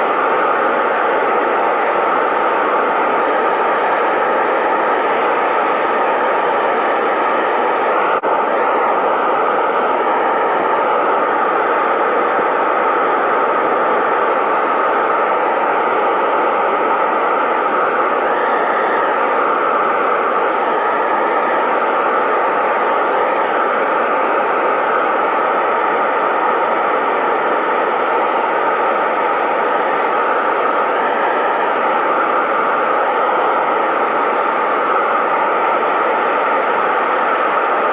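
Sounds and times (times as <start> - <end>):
furnace burner rushing: 0.0 - 37.9.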